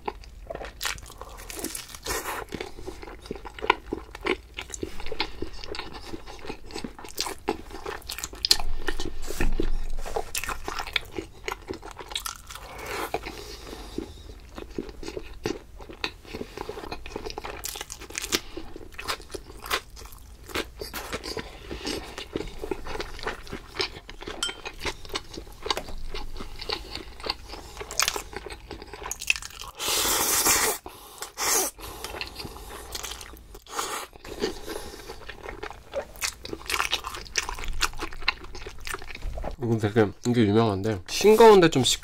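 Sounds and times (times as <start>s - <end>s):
person chewing food: 0.0s - 39.7s.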